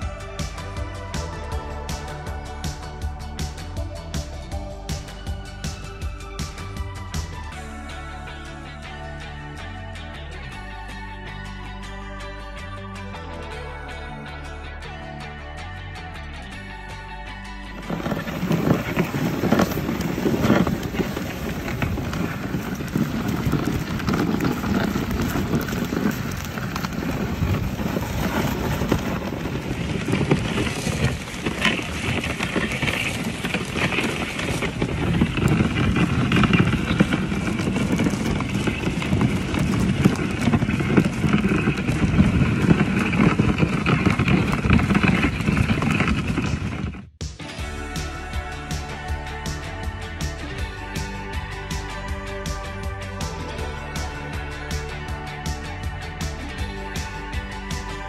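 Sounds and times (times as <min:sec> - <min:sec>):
sleigh moving over snow: 0:00.0 - 0:12.2, 0:16.9 - 0:58.0.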